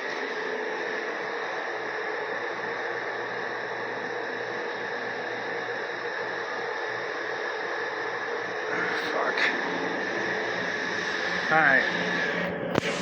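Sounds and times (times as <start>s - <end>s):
dehumidifier fan rushing: 0.0s - 13.0s.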